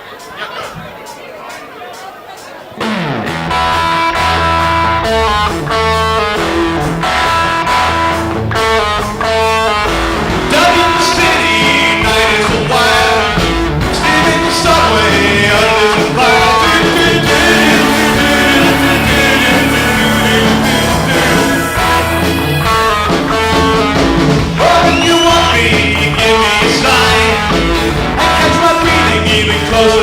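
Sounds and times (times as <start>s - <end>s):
rock band playing: 2.8s - 30.0s.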